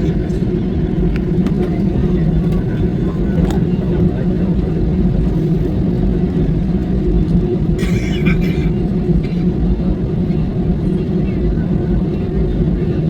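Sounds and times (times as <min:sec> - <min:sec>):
aircraft cabin noise: 0:00.0 - 0:13.0
airliner engines rumbling: 0:00.0 - 0:13.0.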